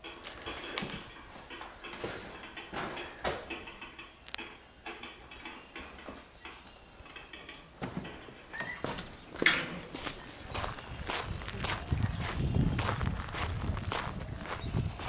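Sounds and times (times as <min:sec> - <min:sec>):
footsteps knocking and scuffing: 0:00.0 - 0:06.7, 0:07.3 - 0:15.0.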